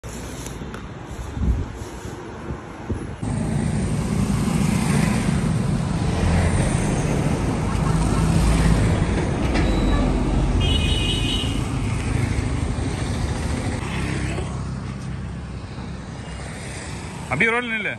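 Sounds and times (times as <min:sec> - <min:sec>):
traffic rumble: 0:00.0 - 0:17.9.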